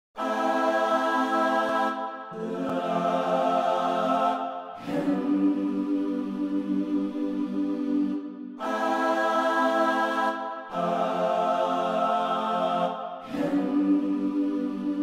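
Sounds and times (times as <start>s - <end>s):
sampled choir sustained chords: 0.2s - 15.0s.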